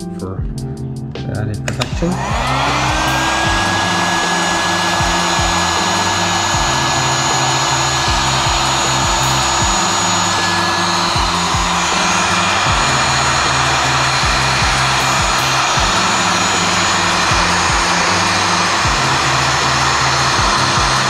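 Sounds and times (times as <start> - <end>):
background music with a beat: 0.0 - 21.0
heat gun blowing: 2.1 - 21.0.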